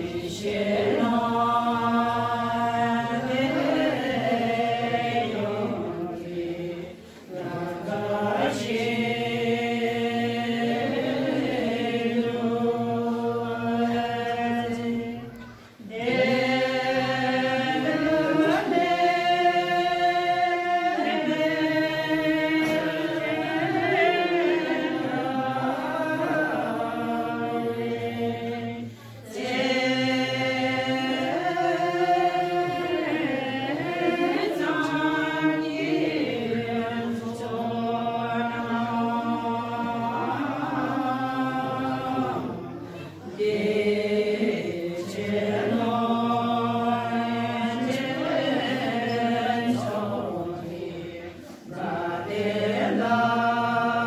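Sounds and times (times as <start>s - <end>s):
women singing a prayer together: 0.0s - 54.0s.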